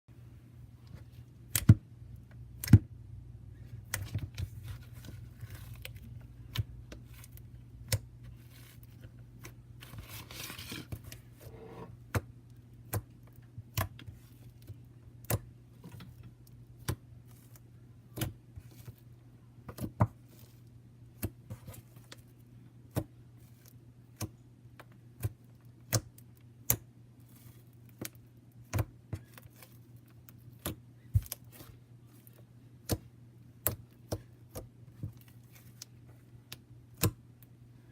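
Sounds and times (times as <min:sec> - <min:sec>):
steady low hum: 0:00.1 - 0:37.9.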